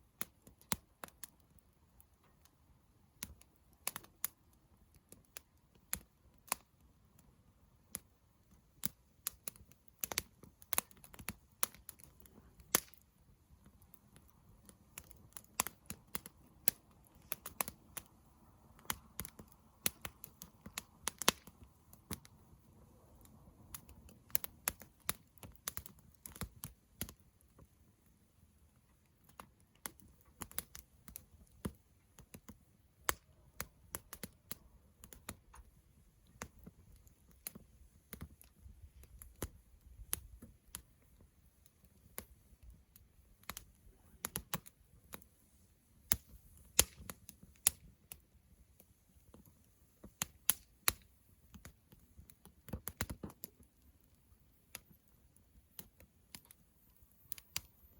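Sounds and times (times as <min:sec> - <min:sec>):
campfire crackling and popping: 0:00.0 - 0:57.9
low rumble of flames: 0:00.0 - 0:57.9.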